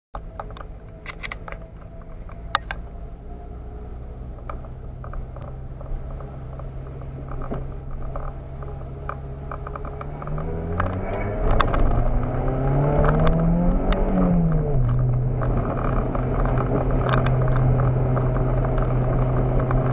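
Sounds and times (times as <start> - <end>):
sharp clicks and rattles: 0.2 - 3.1, 4.0 - 19.9
car engine running: 0.2 - 19.9.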